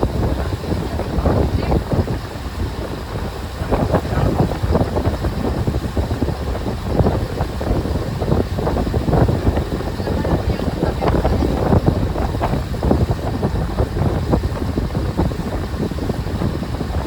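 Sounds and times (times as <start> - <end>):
boat engine running: 0.0 - 17.0
wind buffeting microphone: 0.0 - 17.0.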